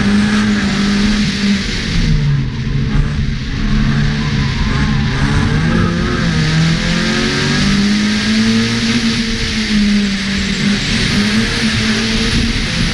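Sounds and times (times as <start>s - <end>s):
car engine revving high: 0.0s - 12.9s
wind and road noise: 0.0s - 12.9s.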